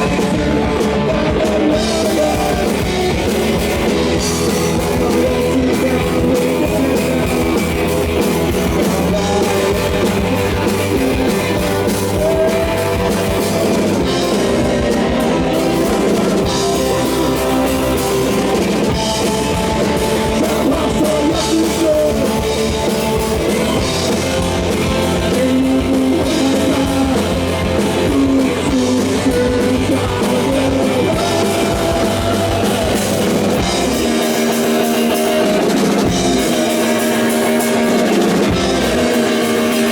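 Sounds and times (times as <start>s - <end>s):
person singing: 0.0s - 39.9s
rock band playing: 0.0s - 39.9s.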